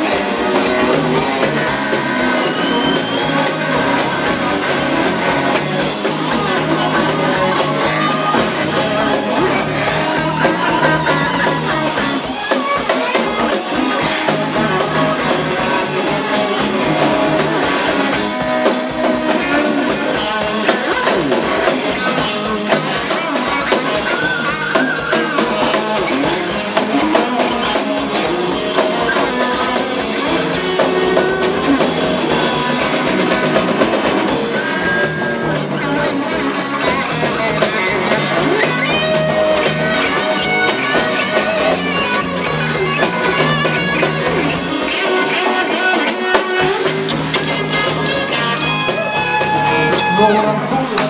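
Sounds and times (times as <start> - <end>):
bass guitar: 0.0 - 51.0
drum kit: 0.0 - 51.0
electric guitars: 0.0 - 51.0.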